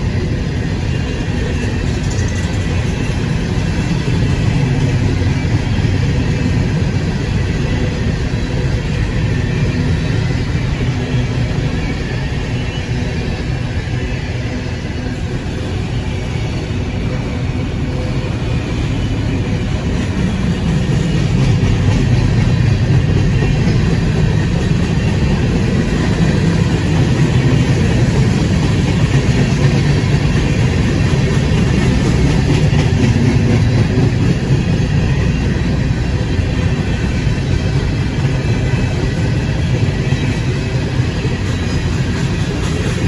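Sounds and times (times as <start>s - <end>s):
freight train rolling past: 0.0s - 43.0s.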